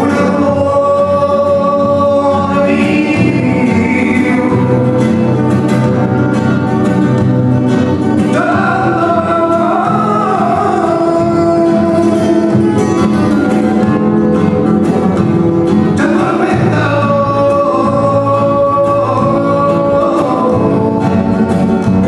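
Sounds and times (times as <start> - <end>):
person singing: 0.0 - 5.9, 8.1 - 13.8, 15.8 - 22.0
guitar: 0.0 - 22.0.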